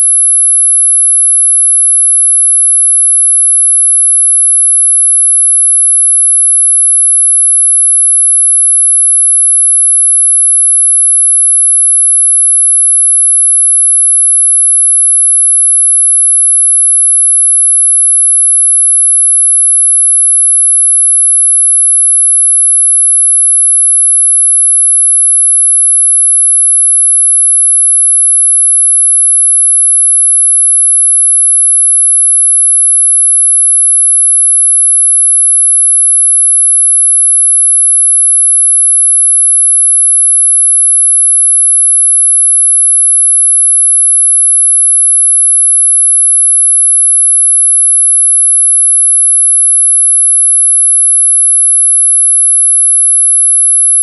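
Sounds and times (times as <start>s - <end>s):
high-pitched sine tone: 0.0s - 54.0s.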